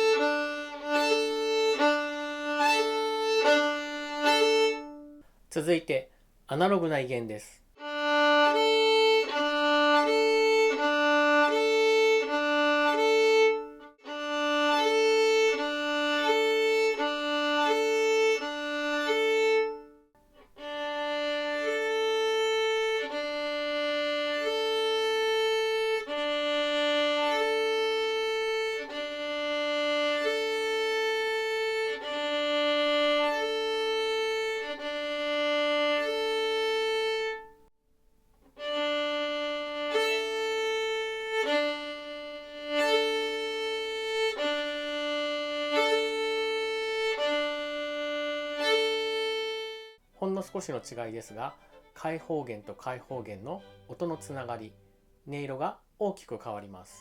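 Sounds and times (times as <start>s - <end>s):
solo violin string crossings: 0.0s - 5.2s, 7.8s - 37.7s, 38.4s - 55.5s.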